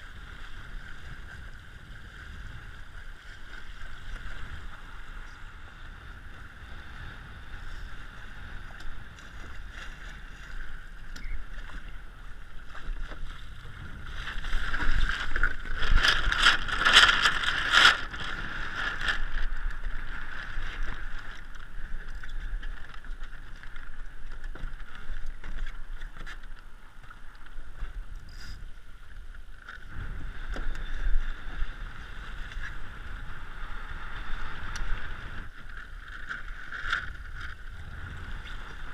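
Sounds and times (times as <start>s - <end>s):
water slapping along boat hull: 0.0s - 38.9s
wind on microphone: 0.0s - 38.9s.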